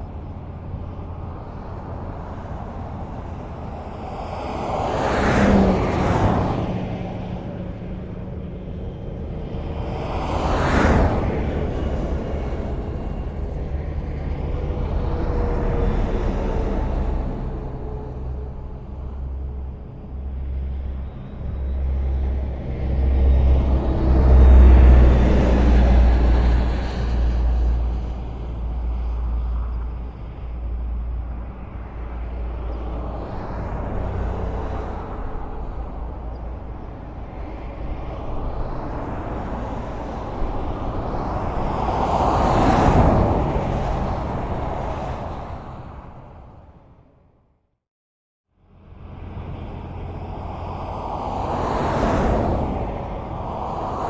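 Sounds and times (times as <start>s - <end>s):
highway traffic passing: 0.0s - 47.5s, 48.6s - 54.0s.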